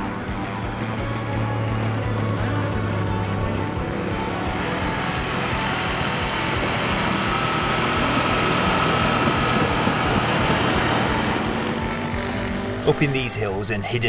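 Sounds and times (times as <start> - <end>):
motorcycle engine running: 0.0 - 13.6
wind and road noise: 0.2 - 13.3.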